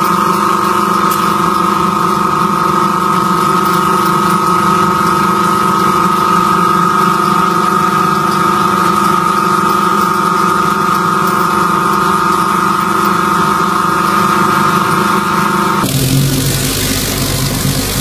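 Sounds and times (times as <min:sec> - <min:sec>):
vibratory polishing machine hum: 0:00.0 - 0:18.0.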